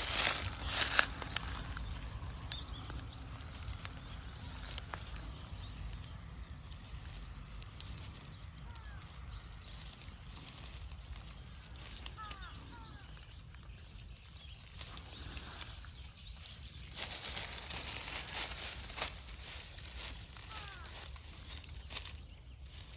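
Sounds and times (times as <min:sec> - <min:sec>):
faint bird chirps: 0:00.0 - 0:22.9
low steady rumble: 0:00.0 - 0:22.9.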